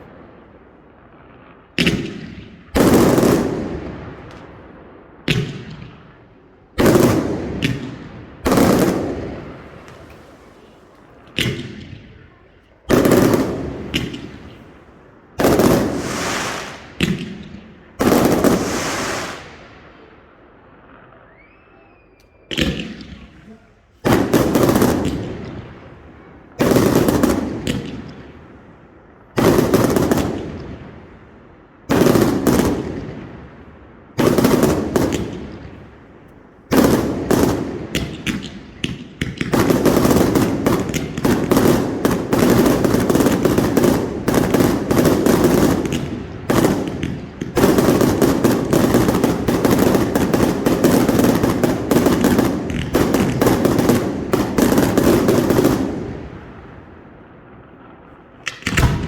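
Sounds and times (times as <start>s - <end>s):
rapid firework barrage: 0.0s - 21.0s, 24.0s - 57.0s, 58.3s - 59.0s
heavy firework booms: 0.0s - 21.2s, 22.5s - 58.0s, 58.6s - 59.0s.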